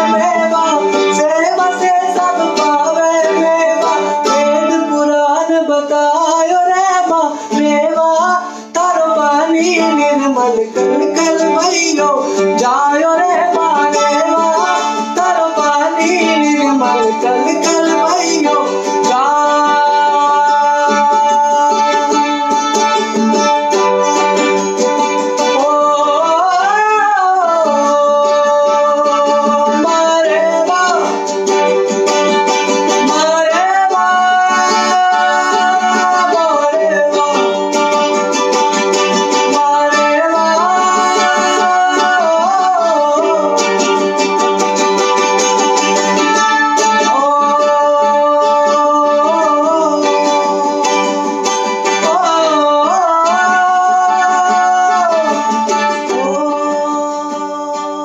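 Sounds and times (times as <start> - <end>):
man singing held phrases: 0.0 - 23.3, 32.8 - 44.2, 45.8 - 58.0
plucked mandolin: 0.0 - 58.0.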